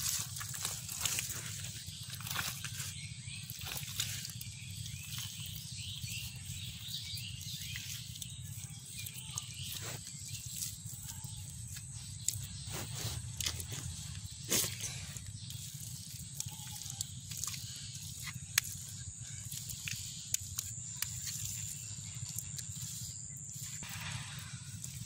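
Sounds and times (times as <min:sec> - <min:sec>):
steady low hum: 0:00.0 - 0:25.0
wet mud squelching: 0:00.0 - 0:25.0.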